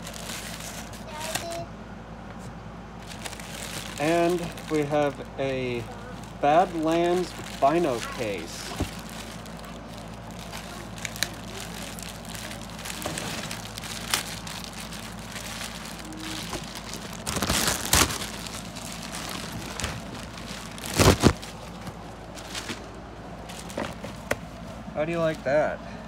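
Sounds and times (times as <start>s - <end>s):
plastic bag crinkling: 0.0s - 1.6s, 3.0s - 24.7s.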